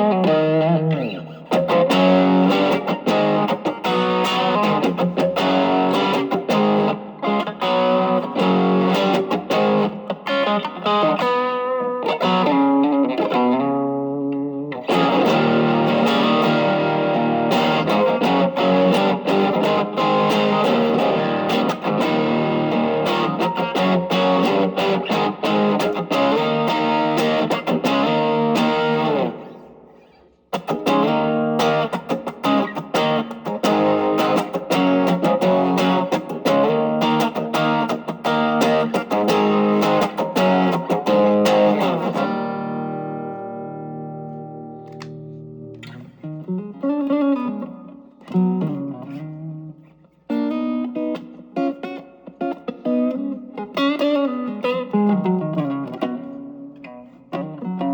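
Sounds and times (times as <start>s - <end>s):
overdriven electric guitar: 0.0s - 57.9s.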